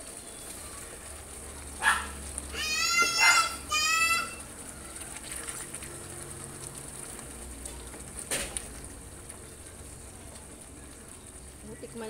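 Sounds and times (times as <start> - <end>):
stew simmering in a pan: 0.0 - 12.0.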